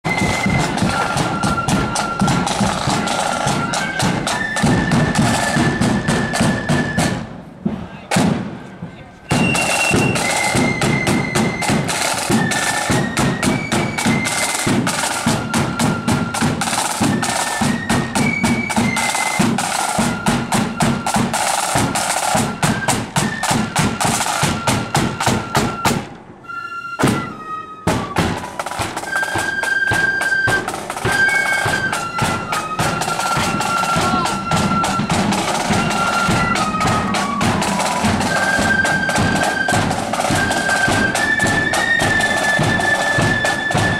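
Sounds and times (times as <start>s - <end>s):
snare drums: 0.0s - 26.2s, 27.0s - 43.9s
flutes playing melody: 0.0s - 43.9s.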